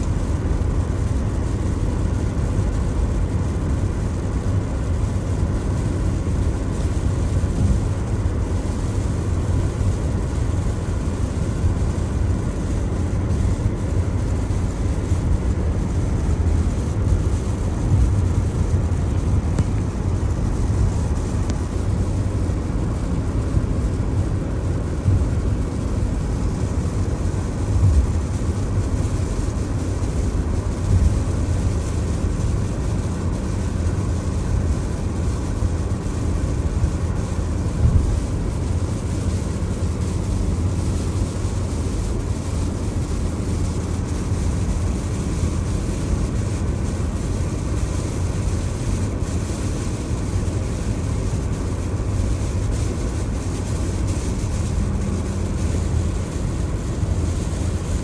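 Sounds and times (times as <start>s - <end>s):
tyre road noise on wet road: 0.0s - 58.0s.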